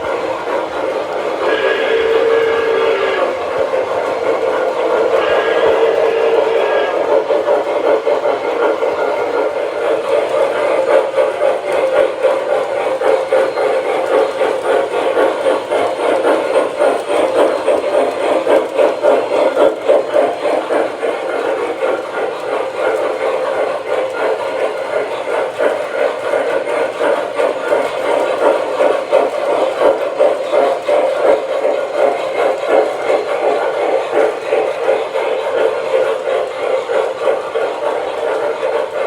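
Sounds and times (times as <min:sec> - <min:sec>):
model steam locomotive chuffing: 0:00.0 - 0:39.0.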